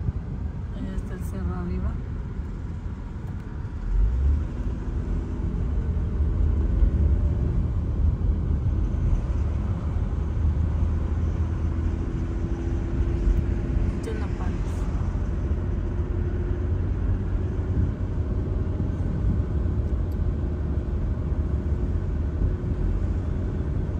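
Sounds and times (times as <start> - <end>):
vehicle engine rumbling: 0.0 - 23.9.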